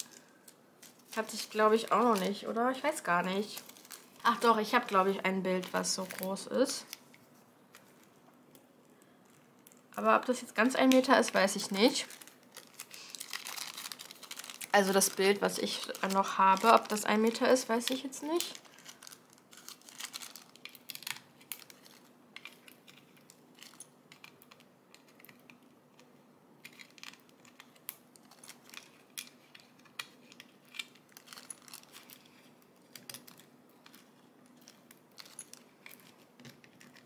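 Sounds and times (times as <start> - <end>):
plastic bag crinkling: 0.0 - 8.2, 8.9 - 25.6, 26.6 - 37.0.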